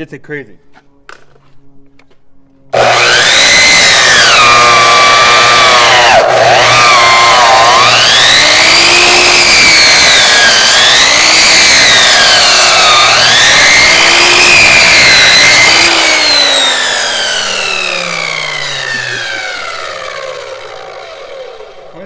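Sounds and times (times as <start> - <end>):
chop saw motor whining: 2.7 - 22.0.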